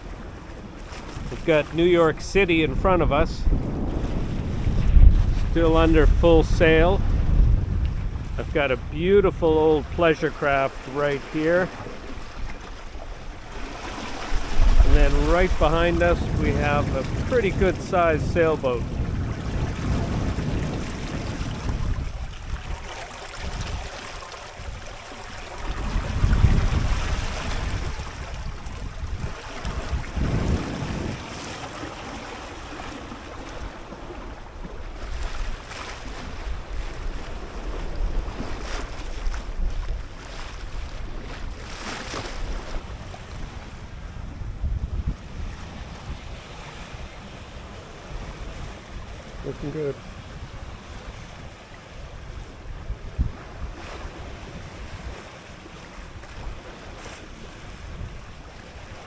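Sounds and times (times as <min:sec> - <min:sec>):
water washing along boat: 0:00.0 - 0:59.0
wind buffeting microphone: 0:00.0 - 0:59.0.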